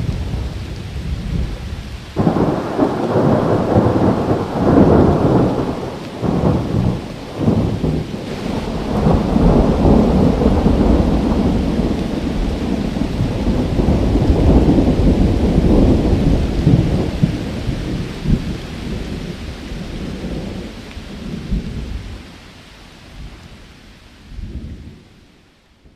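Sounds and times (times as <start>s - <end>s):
rolling thunder: 0.0s - 22.3s
steady rain: 0.0s - 25.9s.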